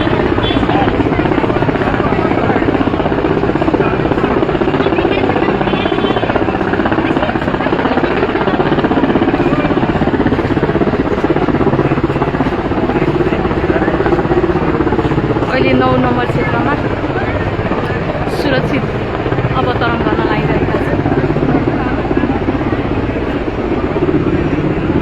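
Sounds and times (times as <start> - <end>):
helicopter engine running: 0.0 - 25.0
helicopter rotor blades chopping: 0.0 - 25.0.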